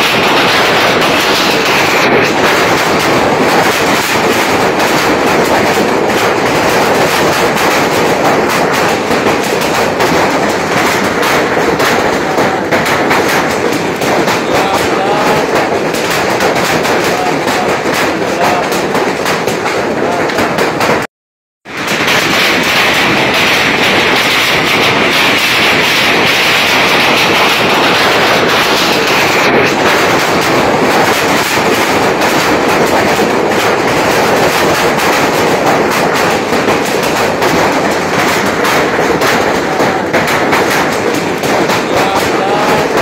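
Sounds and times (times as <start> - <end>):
hail rattling on sheet roof: 0.0 - 43.0.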